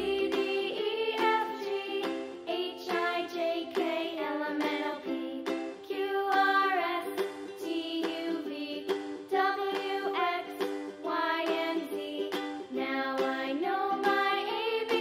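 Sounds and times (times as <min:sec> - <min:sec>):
children's song with plucked accompaniment: 0:00.0 - 0:15.0.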